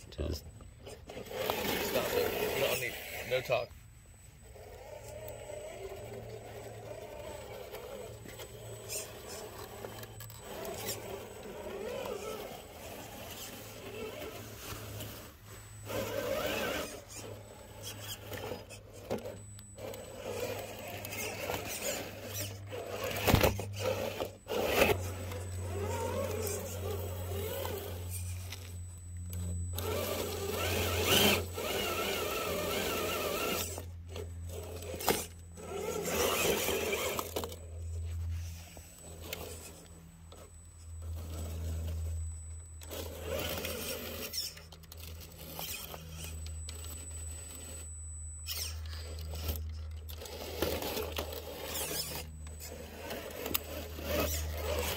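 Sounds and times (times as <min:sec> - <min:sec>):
rc truck motor whirring: 0:00.2 - 0:54.9
tires scraping over stones: 0:00.8 - 0:42.2, 0:42.8 - 0:47.8, 0:48.4 - 0:54.9.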